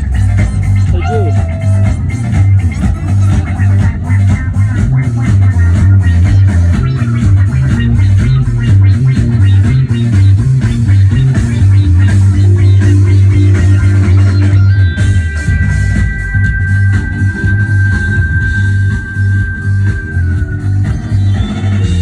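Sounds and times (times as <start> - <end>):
electric guitar: 0.0 - 22.0
heavy bass line: 0.0 - 22.0
steady drum beat: 0.0 - 22.0.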